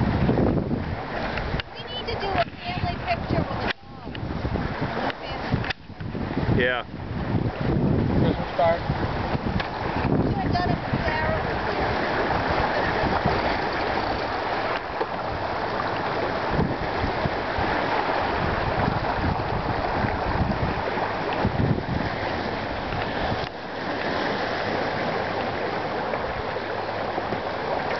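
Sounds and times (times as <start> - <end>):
wind and water along hull: 0.0 - 27.9
wind buffeting microphone: 0.0 - 27.9.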